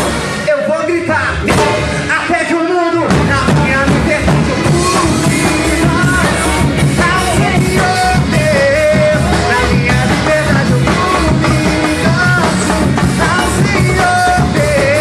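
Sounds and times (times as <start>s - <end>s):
worship band playing rock song: 0.0s - 15.0s.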